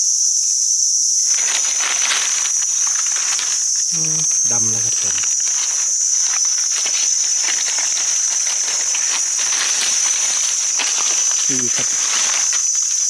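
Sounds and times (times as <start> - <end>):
high-pitched insect chorus: 0.0 - 13.0
dry leaf litter crackling: 1.2 - 13.0.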